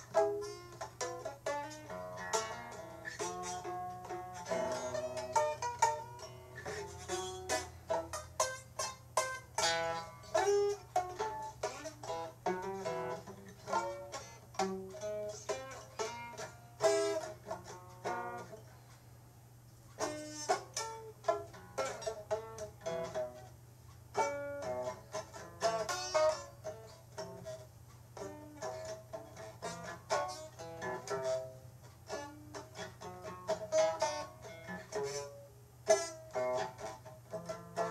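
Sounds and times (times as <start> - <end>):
plucked string instrument: 0.0 - 19.1, 19.8 - 37.9
steady low hum: 0.0 - 37.9.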